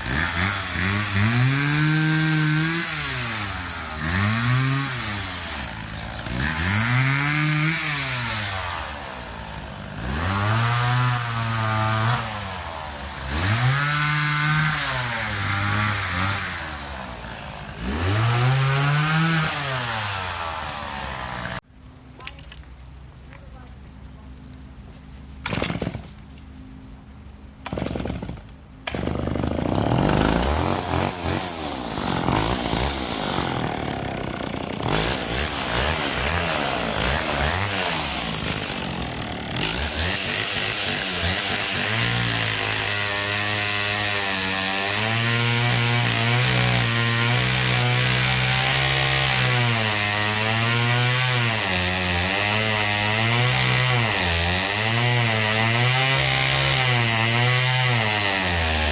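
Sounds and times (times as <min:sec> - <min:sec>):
chainsaw starting and revving: 0:00.0 - 0:21.6, 0:27.6 - 0:58.9.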